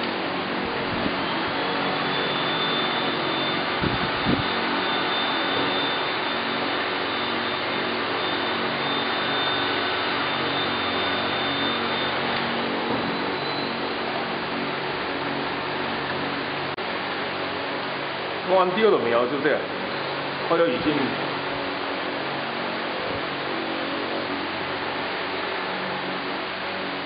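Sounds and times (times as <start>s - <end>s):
heat gun blowing with whine: 0.0s - 27.0s.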